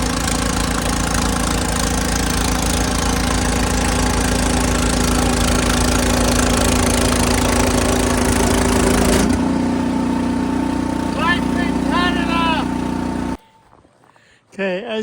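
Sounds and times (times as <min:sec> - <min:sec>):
snow blower engine running: 0:00.0 - 0:13.4.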